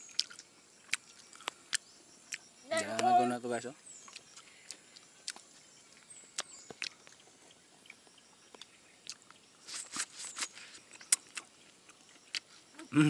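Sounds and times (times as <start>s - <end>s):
corn being bitten and chewed: 0.0s - 3.1s, 4.0s - 7.2s, 7.9s - 12.6s.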